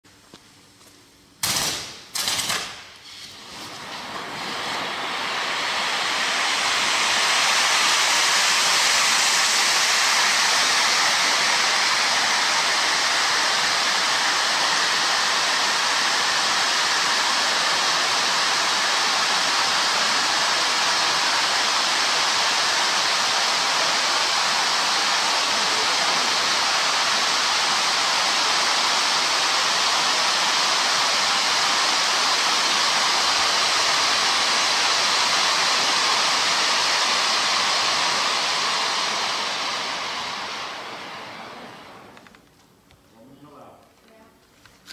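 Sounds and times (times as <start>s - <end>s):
firework wheels hissing sparks: 1.4s - 44.9s.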